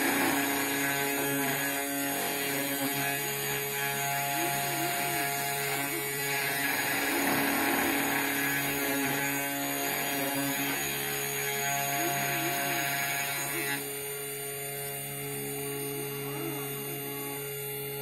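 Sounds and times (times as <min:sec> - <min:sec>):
spindle motor whine: 0:00.0 - 0:18.0.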